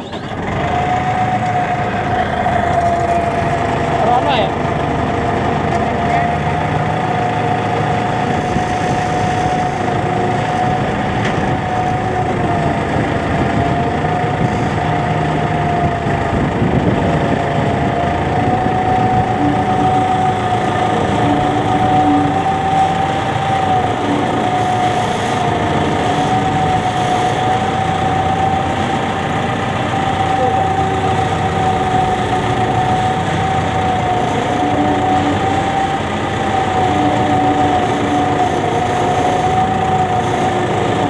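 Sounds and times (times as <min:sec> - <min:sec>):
diesel tractor engine idling: 0:00.0 - 0:41.0
high wavering whine: 0:00.0 - 0:41.0.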